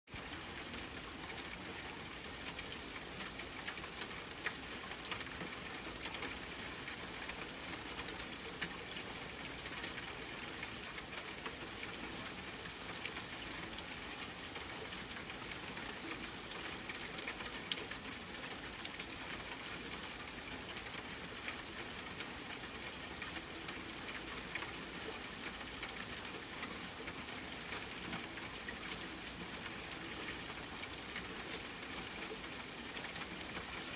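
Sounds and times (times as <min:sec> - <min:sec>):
raindrops ticking: 0:00.2 - 0:33.9
steady rain hiss: 0:00.2 - 0:33.9.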